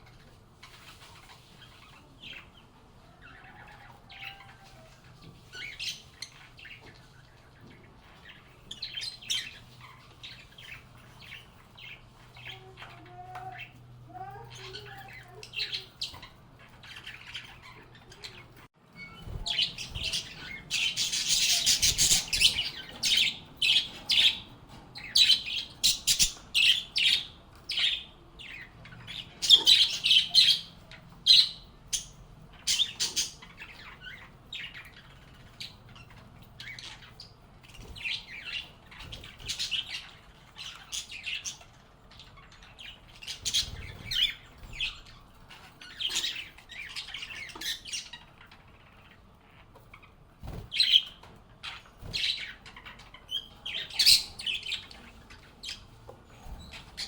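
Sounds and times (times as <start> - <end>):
lovebirds chirping and squawking: 0.0 - 57.0.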